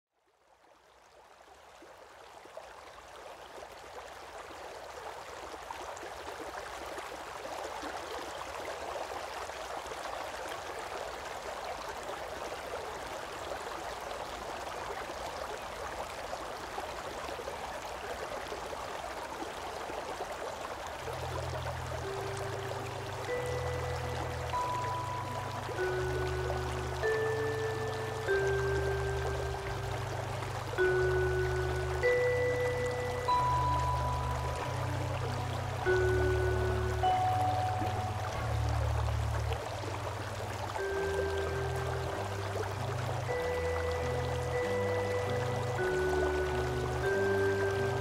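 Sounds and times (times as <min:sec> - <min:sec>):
river water running: 0:00.1 - 0:48.0.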